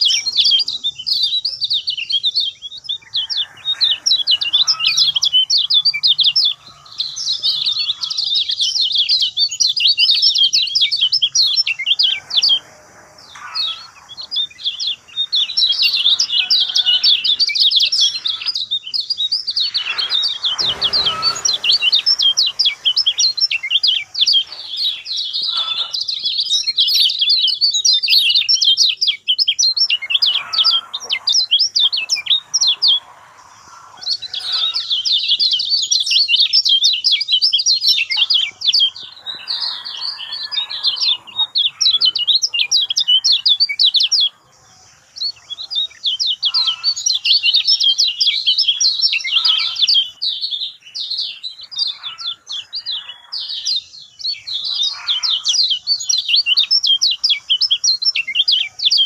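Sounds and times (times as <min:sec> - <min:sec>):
songbird rapid high chirping: 0:00.0 - 0:59.0.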